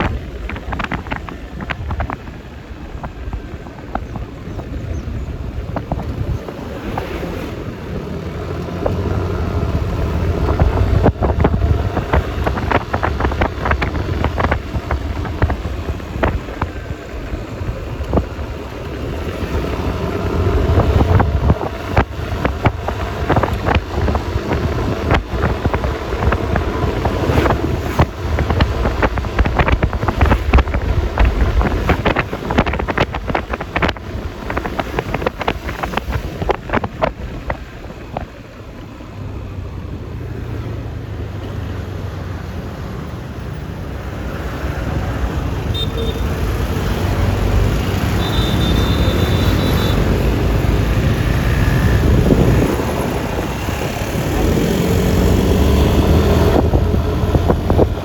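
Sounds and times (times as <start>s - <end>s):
wind buffeting microphone: 0.0s - 39.7s, 49.0s - 58.0s
tyre noise on road: 0.0s - 58.0s.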